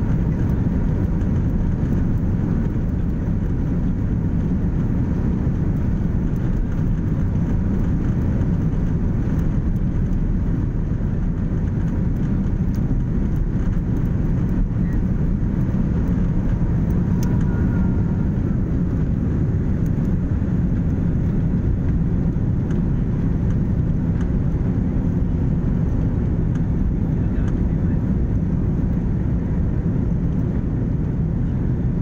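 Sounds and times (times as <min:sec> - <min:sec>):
jet engines at takeoff power: 0:00.0 - 0:32.0
wheels on runway: 0:00.0 - 0:32.0.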